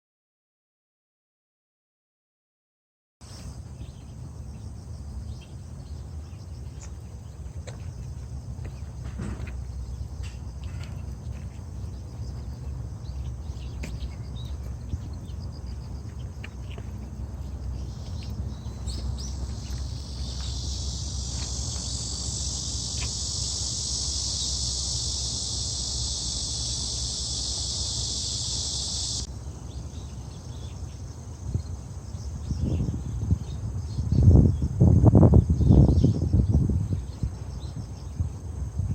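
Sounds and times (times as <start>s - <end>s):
insects chirring: 3.2s - 38.9s
low outdoor rumble: 3.4s - 38.9s.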